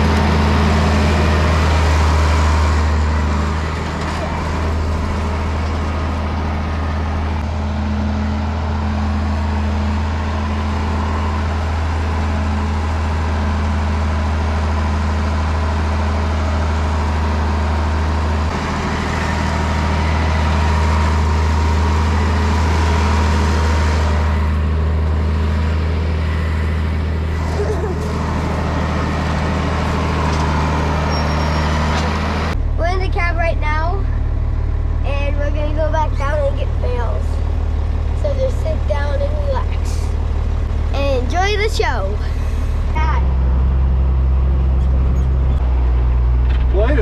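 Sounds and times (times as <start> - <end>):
farm vehicle engine running: 0.0 - 47.0.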